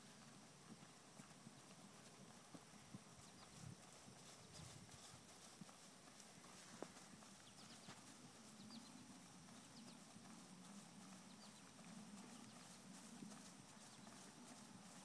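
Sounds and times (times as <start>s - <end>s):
faint horse hoofbeats on grass: 0.0s - 15.0s.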